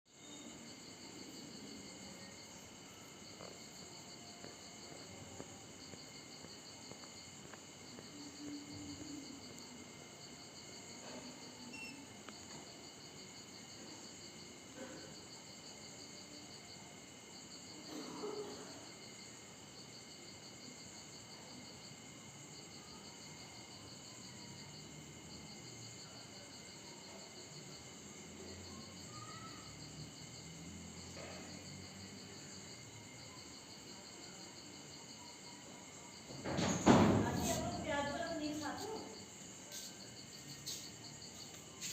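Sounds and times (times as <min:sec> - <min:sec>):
insects chirping trill: 0:00.1 - 0:41.9.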